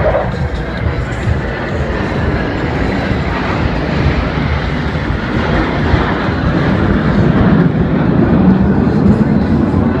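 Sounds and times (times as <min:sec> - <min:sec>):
jet engine rumble: 0:00.0 - 0:10.0.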